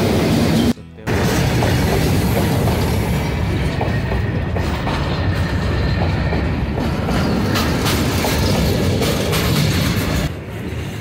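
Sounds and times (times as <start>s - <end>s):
steel wheels rumbling on rail: 0.0s - 11.0s
train wheels clacking: 1.1s - 11.0s.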